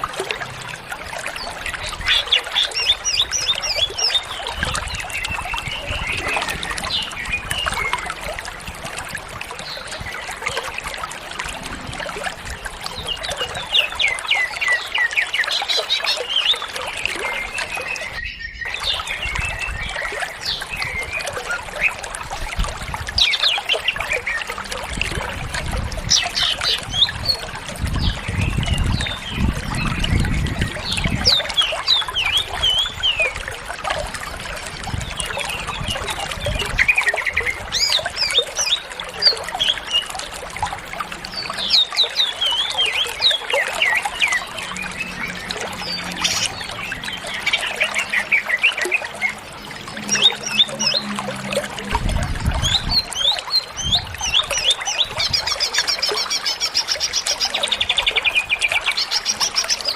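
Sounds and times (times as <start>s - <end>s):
trickle of running water: 0.0s - 59.9s.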